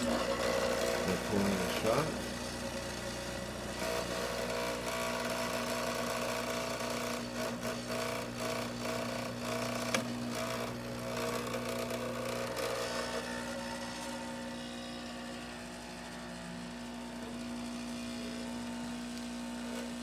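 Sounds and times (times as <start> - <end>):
espresso machine pump humming: 0.0 - 20.0.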